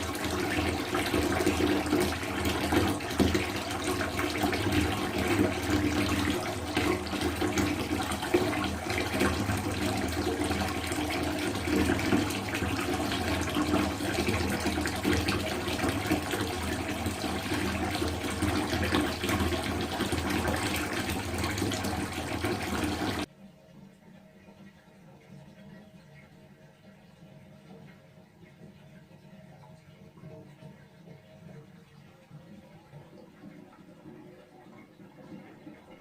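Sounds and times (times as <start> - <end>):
water dripping into a bathtub: 0.0 - 23.3, 24.2 - 36.0.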